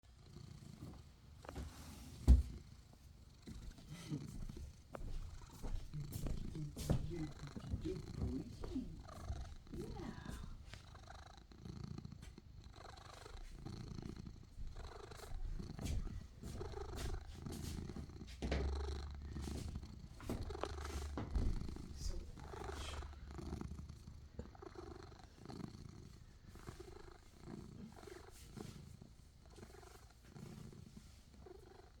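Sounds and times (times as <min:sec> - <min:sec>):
cat purring: 0:00.0 - 0:32.0.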